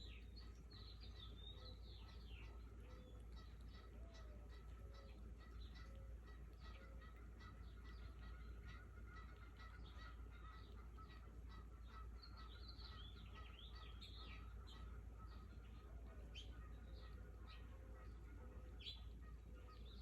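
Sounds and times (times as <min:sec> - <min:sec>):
bird warbling song: 0:00.0 - 0:20.0
low steady rumble: 0:00.0 - 0:20.0
small birds chirping: 0:00.0 - 0:20.0.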